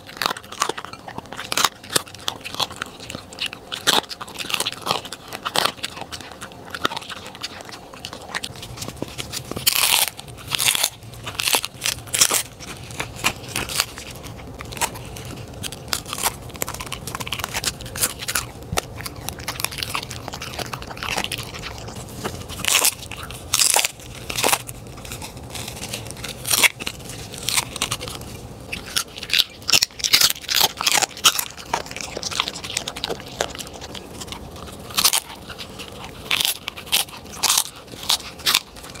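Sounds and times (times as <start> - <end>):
dog crunching hard food: 0.0 - 39.0.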